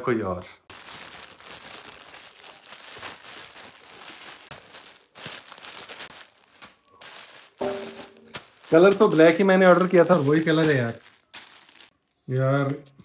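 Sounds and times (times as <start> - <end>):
plastic wrapping crinkling: 0.7 - 12.0.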